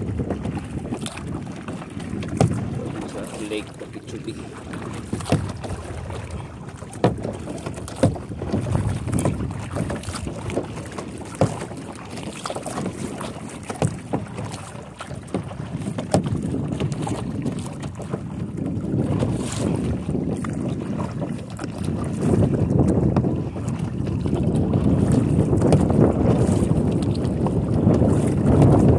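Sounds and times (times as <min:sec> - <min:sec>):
kayak paddle splashing: 0:00.0 - 0:28.9
wind rumble on microphone: 0:00.0 - 0:28.9.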